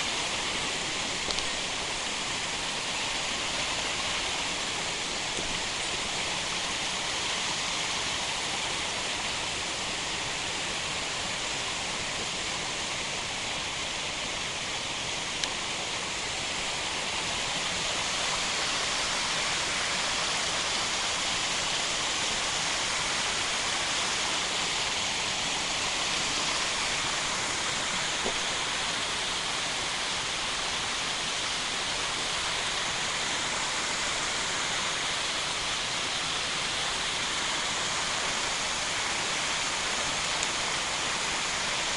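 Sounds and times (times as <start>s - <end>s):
waterfall pouring onto rocks: 0.0s - 41.9s.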